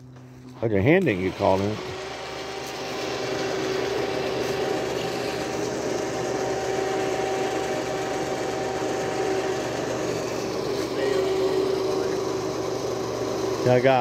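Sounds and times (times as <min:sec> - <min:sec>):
electric winch motor whining: 0:00.0 - 0:14.0.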